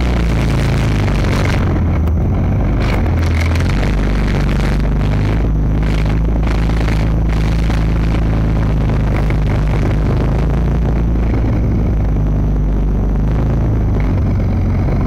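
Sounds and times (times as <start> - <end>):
diesel engine under load: 0.0 - 15.0
tracked vehicle running gear: 0.0 - 15.0.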